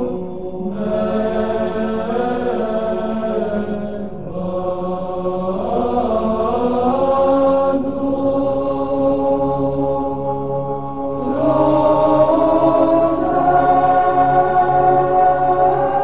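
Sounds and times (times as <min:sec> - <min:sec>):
voices chanting long notes: 0:00.0 - 0:16.0.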